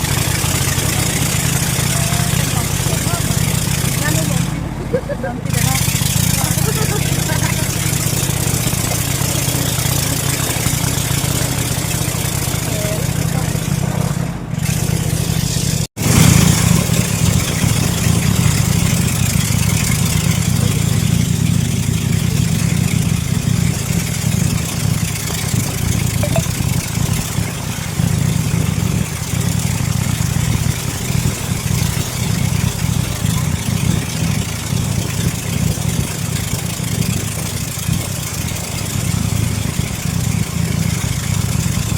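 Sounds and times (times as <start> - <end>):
speedboat engine running: 0.0 - 41.9.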